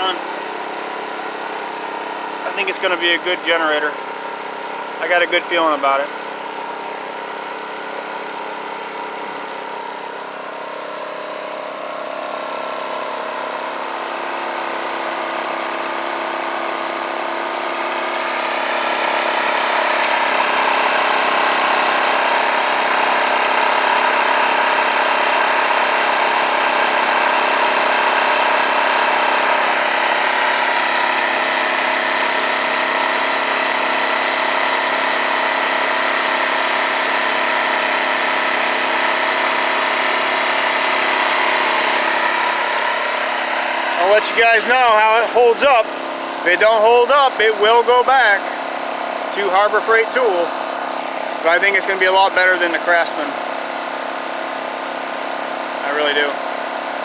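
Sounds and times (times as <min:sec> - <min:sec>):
generator engine running: 0:00.0 - 0:57.0.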